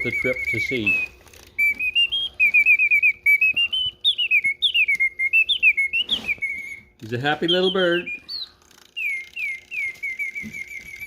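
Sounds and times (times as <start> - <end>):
mechanical bird whistle trills: 0.0 - 11.0.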